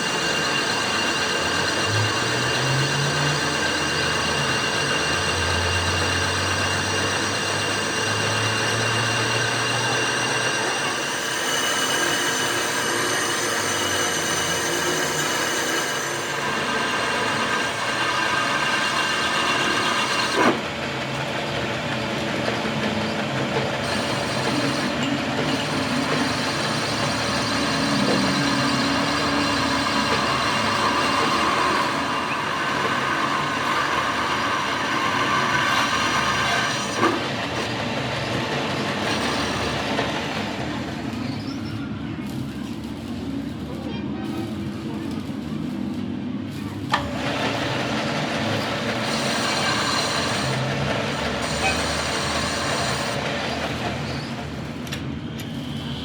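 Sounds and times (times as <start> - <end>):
machinery noise: 0.0 - 56.0
steady whining tones: 0.0 - 56.0.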